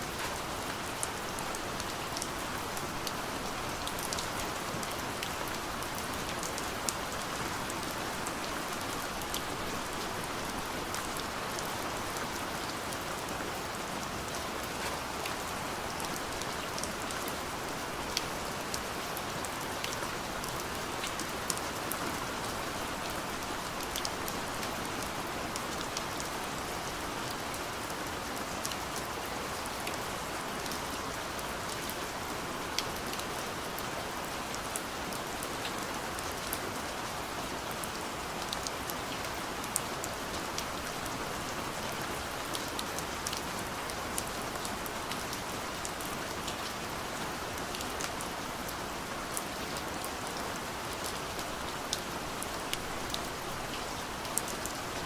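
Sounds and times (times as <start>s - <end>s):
soft rain on window: 0.0s - 55.0s.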